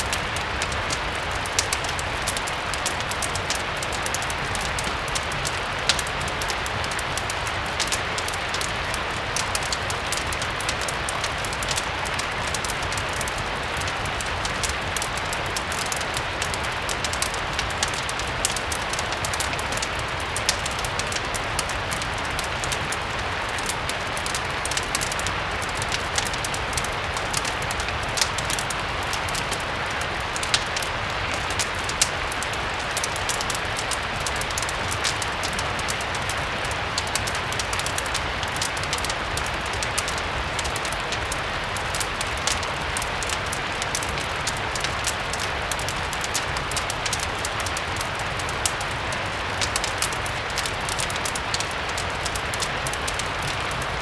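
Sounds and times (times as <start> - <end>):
steady rain: 0.0 - 54.0
wood fire crackling: 0.0 - 54.0.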